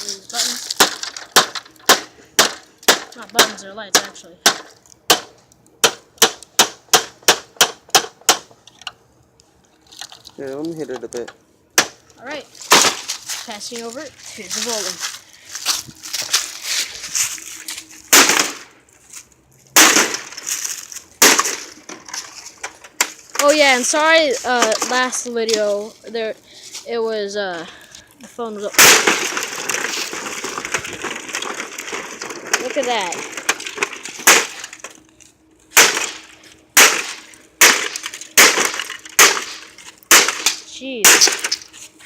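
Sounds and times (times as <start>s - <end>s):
heavy blows cracking parts: 0.0s - 9.0s, 9.8s - 25.9s, 27.8s - 41.9s.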